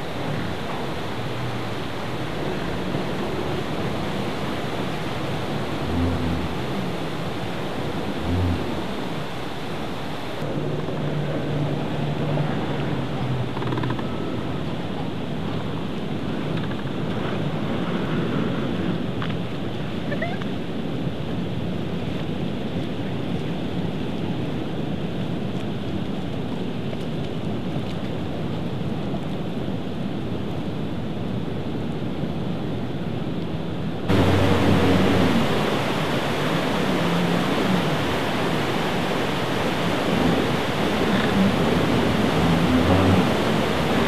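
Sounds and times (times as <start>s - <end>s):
churning white water rushing: 0.0s - 44.0s.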